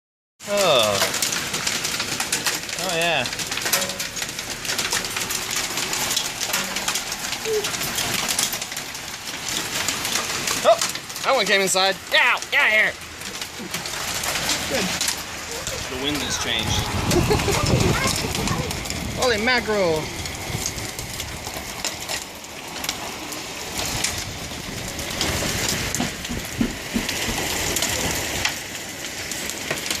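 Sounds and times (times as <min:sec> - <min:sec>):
hailstones pelting down: 0:00.4 - 0:30.0
rain hissing: 0:00.4 - 0:30.0.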